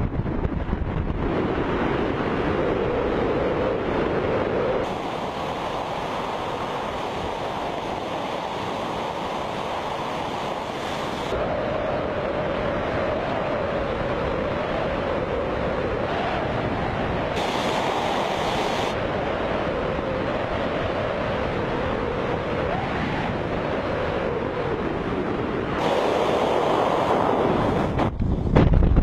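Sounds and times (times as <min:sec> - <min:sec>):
air rushing over microphone: 0:00.0 - 0:29.0.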